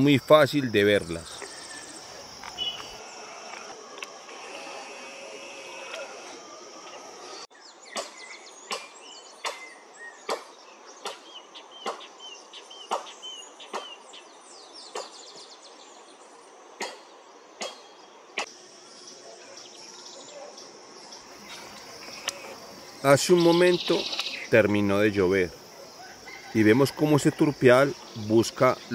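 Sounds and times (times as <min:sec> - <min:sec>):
high insect hum: 0:00.0 - 0:28.9.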